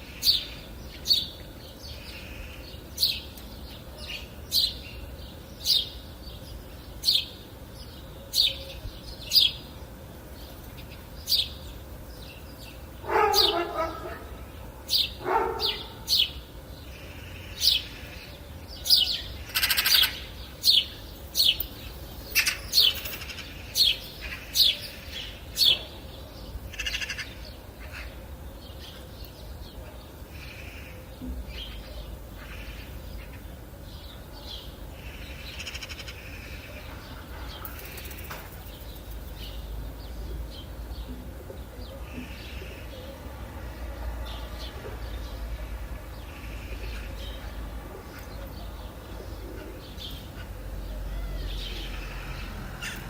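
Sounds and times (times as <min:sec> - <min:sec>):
birds calling: 0:00.0 - 0:43.7, 0:44.3 - 0:53.0.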